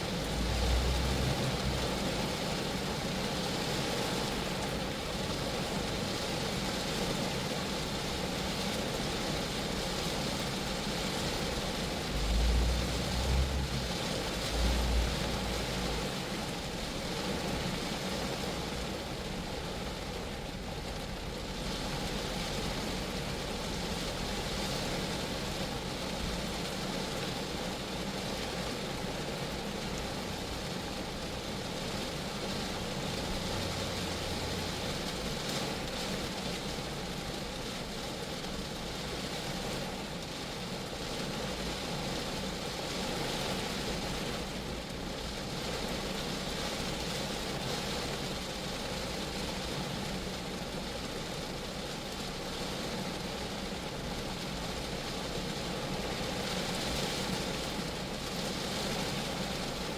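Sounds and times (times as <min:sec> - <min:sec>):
rain pattering on a car: 0:00.0 - 0:59.9.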